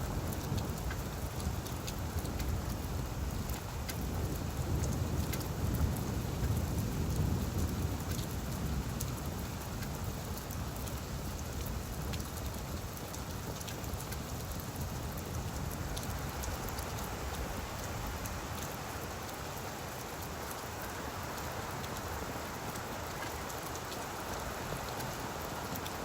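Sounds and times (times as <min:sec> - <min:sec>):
rain falling on leaves: 0:00.0 - 0:26.0.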